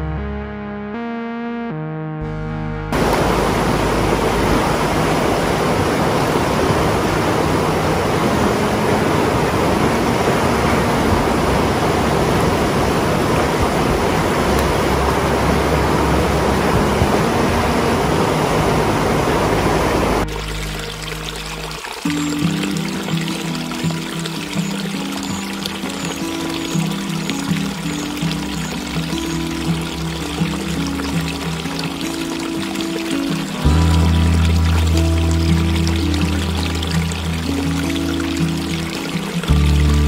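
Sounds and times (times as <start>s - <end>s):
river rushing over rocks: 3.0s - 40.0s.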